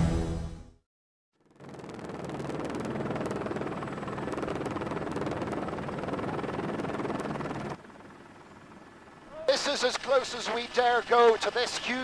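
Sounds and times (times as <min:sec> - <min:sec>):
helicopter engine and rotor: 0:01.4 - 0:12.0.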